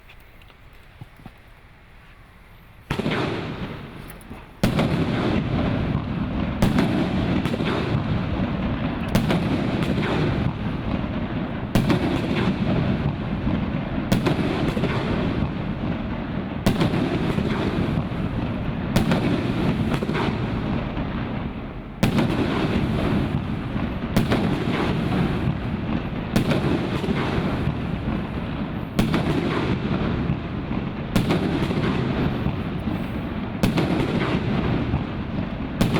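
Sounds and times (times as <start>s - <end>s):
firework rumble and crackle: 0.0s - 35.9s
firework shots: 2.8s - 35.9s.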